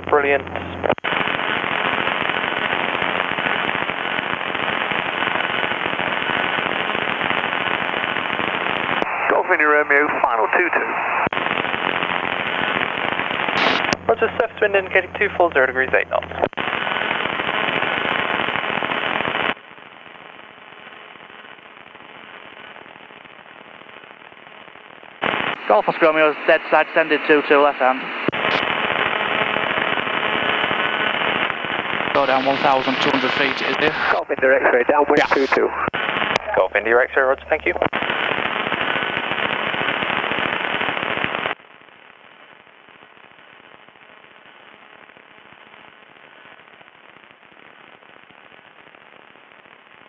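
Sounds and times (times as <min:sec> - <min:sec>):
radio static crackling: 0:00.0 - 0:50.0.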